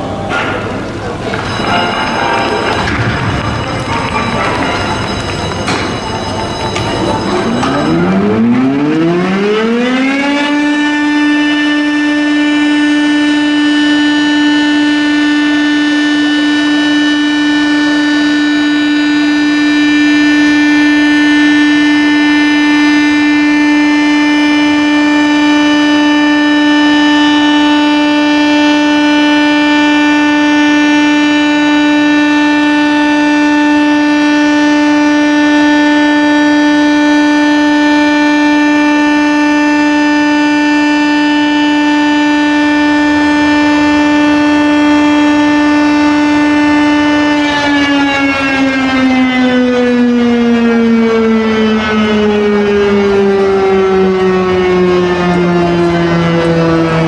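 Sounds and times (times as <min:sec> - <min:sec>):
signal horn long blast: 0:01.0 - 0:57.0.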